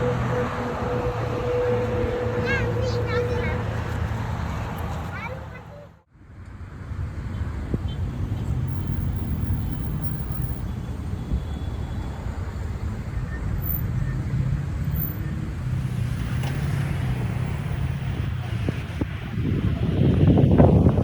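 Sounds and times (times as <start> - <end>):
road vehicle rumble: 0.0 - 21.0.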